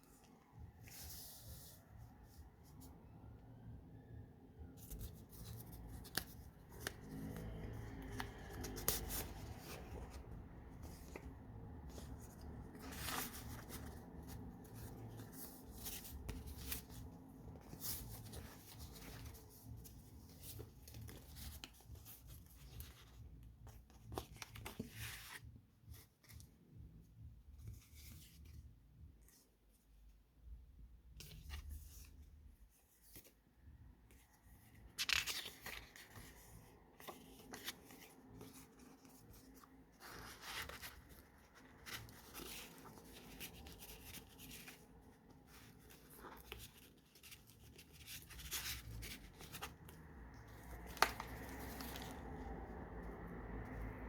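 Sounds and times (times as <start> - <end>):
paper pages rustling: 0.0 - 3.0, 4.7 - 26.6, 31.1 - 53.9.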